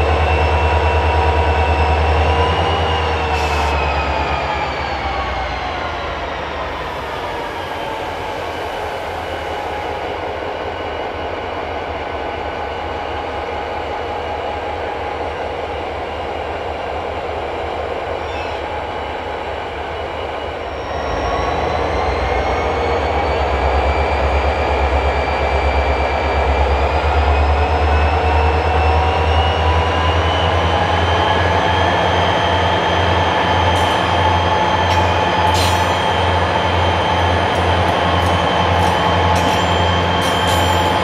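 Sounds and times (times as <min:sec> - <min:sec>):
diesel locomotive engines running: 0:00.0 - 0:41.0.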